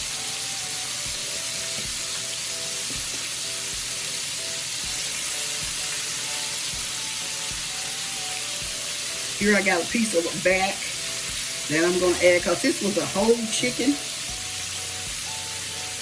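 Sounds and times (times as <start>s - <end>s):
chicken sizzling in a skillet: 0.0s - 16.0s
soft background music with beat: 0.0s - 16.0s.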